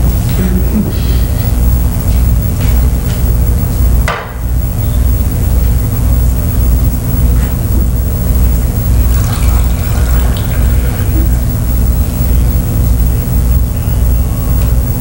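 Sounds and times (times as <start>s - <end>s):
loud low pulsing hum: 0.0s - 15.0s.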